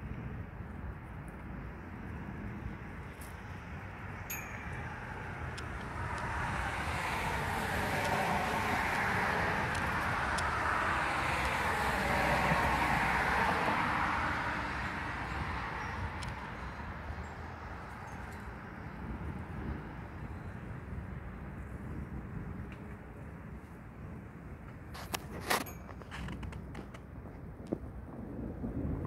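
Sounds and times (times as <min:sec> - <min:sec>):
vehicle tyre and road noise: 0:00.0 - 0:29.0.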